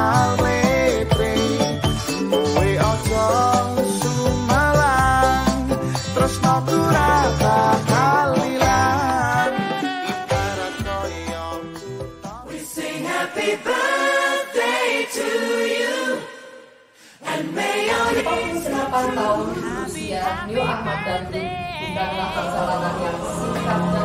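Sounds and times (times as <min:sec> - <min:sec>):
group singing together: 0:00.0 - 0:24.0.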